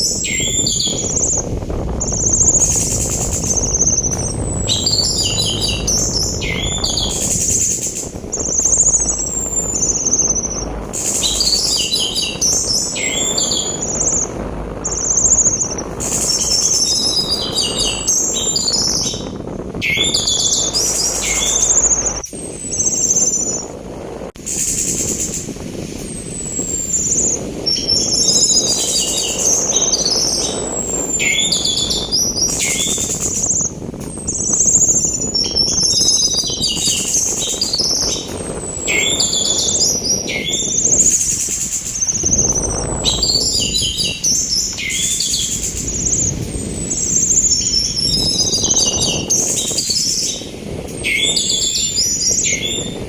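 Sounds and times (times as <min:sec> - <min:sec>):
thrush singing chirps and whistles: 0:00.0 - 0:23.8, 0:24.4 - 0:53.0
sea wind rushing: 0:00.0 - 0:53.0.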